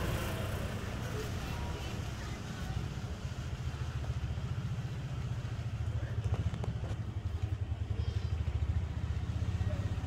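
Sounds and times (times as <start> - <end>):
small engine rumbling: 0.0 - 10.0.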